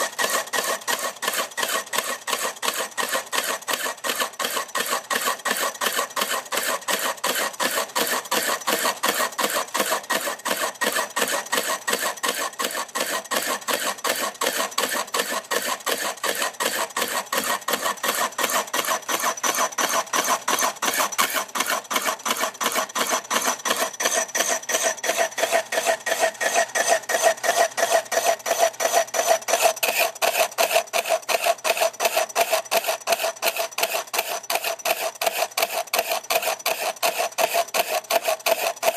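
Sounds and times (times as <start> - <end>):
lathe tool scraping wood: 0.0 - 38.9.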